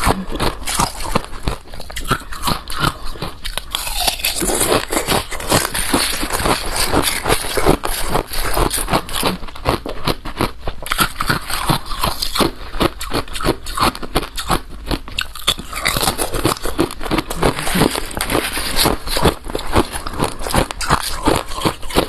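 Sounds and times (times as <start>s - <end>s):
ice being chewed with sharp crunches: 0.0s - 22.0s.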